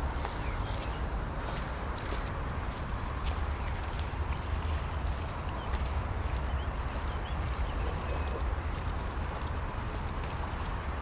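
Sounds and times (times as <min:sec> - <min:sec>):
footsteps on park path: 0:00.0 - 0:11.0
steady low rumble: 0:00.0 - 0:11.0.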